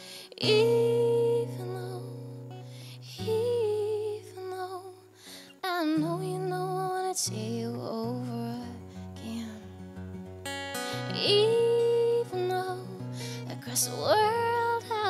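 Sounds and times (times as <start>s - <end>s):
woman singing: 0.0s - 9.8s, 10.9s - 15.0s
acoustic guitar chords: 0.0s - 15.0s.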